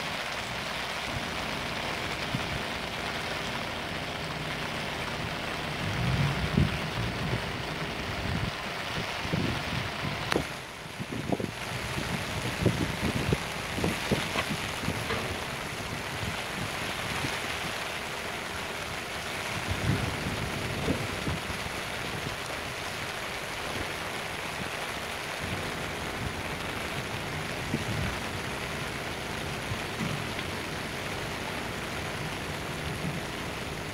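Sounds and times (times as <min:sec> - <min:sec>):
rain hissing: 0:00.0 - 0:33.9.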